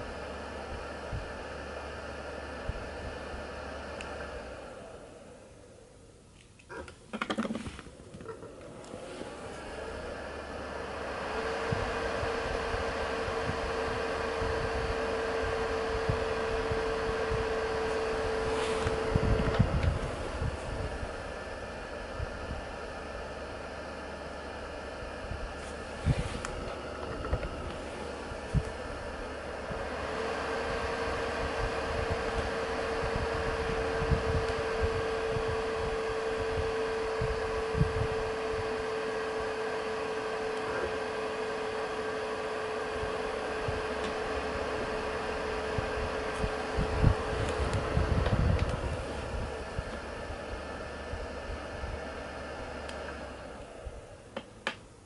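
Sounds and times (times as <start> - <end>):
fans blowing air with motor whine: 0.0 - 55.0.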